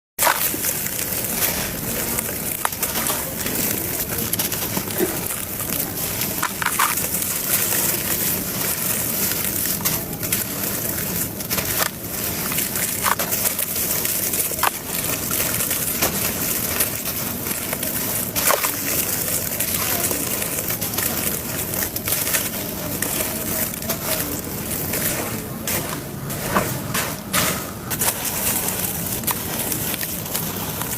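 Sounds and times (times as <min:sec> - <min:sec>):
dried cement crumbling and crunching: 0:00.2 - 0:30.9.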